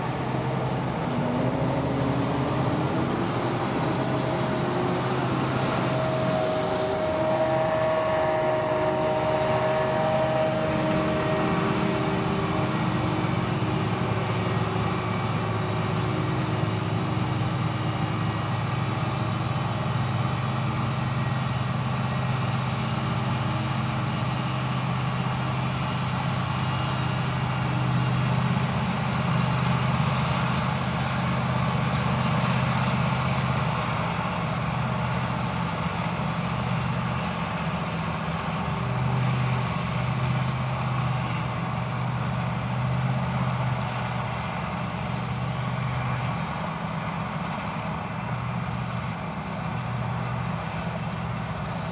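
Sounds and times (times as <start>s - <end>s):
forage harvester engine drone: 0.0s - 51.9s.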